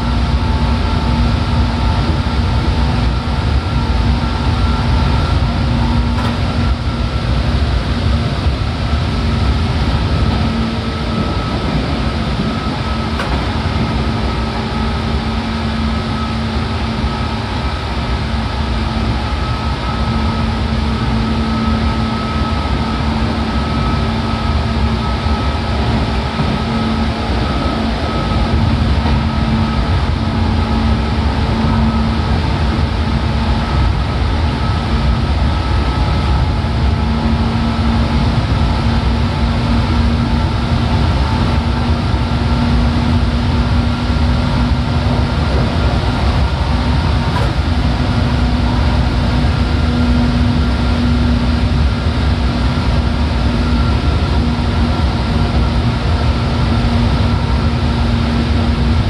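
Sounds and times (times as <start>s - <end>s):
train motor hum: 0.0s - 59.0s
train wheels rumbling: 0.0s - 59.0s.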